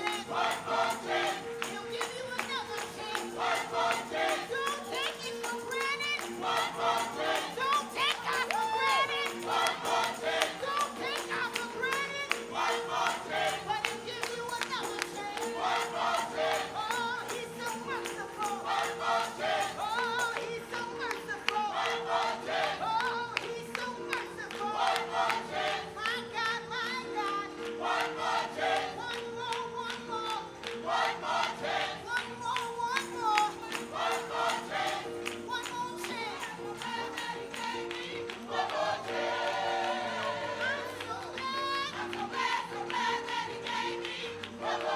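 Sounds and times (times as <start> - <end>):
gospel choir singing: 0.0 - 44.9.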